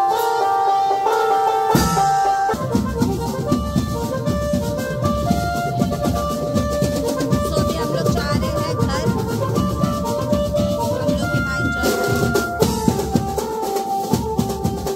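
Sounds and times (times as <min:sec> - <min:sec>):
music with drums and melody: 0:00.0 - 0:14.9
dense fast drumming: 0:01.8 - 0:14.9.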